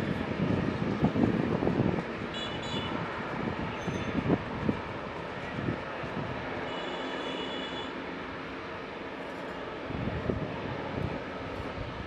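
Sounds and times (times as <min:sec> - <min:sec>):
turboprop engine and propeller noise: 0:00.0 - 0:12.0.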